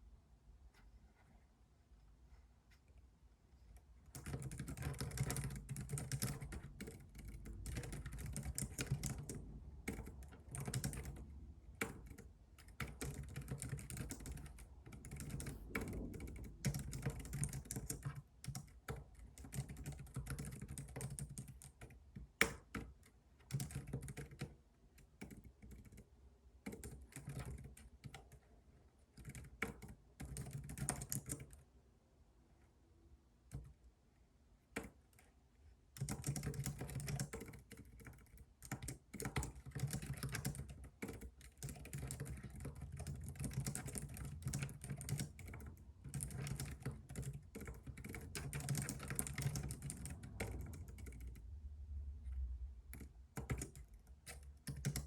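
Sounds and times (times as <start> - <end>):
computer keyboard typing: 4.1 - 31.6, 33.5 - 33.8, 34.7 - 35.3, 35.9 - 51.5, 52.3 - 55.0.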